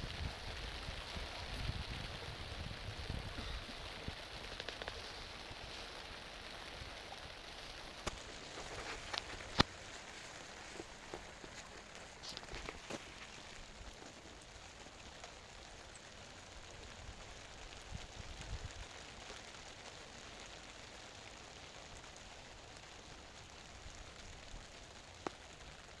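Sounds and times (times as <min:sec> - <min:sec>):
light rain pattering: 0:00.0 - 0:26.0.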